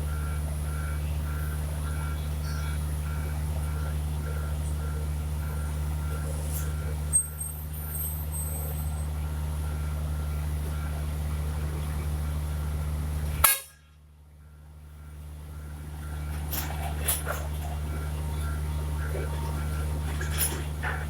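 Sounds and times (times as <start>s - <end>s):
heavy diesel engine humming: 0.0s - 21.0s.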